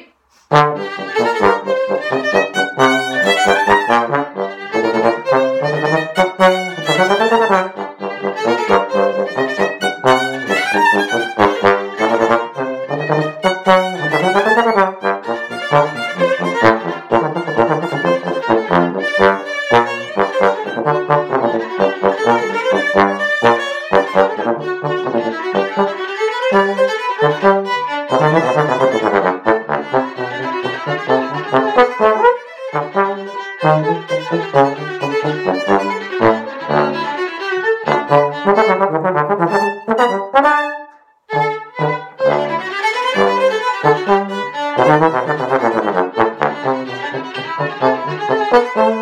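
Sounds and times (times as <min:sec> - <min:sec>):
violin: 0:00.0 - 0:49.0
bass trombone: 0:00.5 - 0:37.2, 0:37.8 - 0:49.0.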